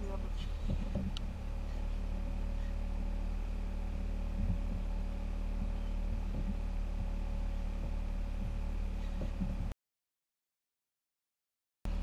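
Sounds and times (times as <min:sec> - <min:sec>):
low mechanical hum: 0:00.0 - 0:09.8.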